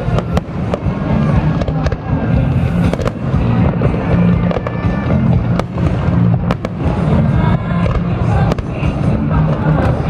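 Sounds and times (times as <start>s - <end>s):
deep rumble: 0.0s - 10.0s
music: 0.0s - 10.0s.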